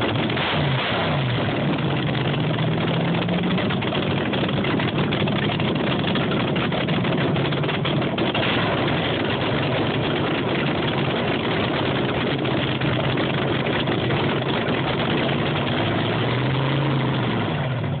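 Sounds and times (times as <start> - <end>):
dragster engine idling roughly: 0.0 - 18.0.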